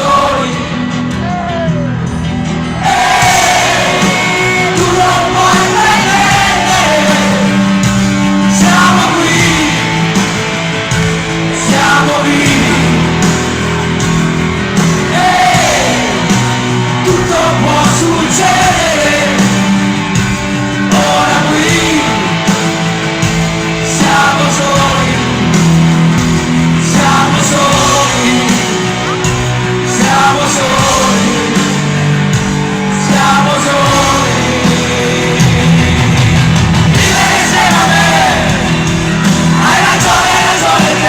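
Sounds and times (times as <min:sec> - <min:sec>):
live rock band playing: 0:00.0 - 0:41.0
person singing lead vocals: 0:00.0 - 0:41.0.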